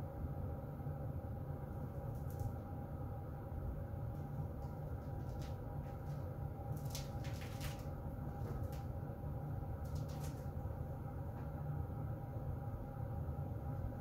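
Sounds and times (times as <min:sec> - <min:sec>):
faint constant hum: 0:00.0 - 0:14.0
heater vent air rush: 0:00.0 - 0:14.0.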